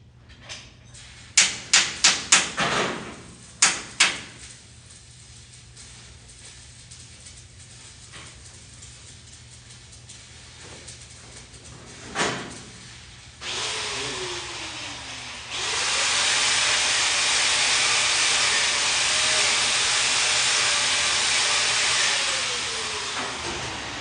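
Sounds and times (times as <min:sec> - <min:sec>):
welding arc hissing: 0:01.0 - 0:24.0.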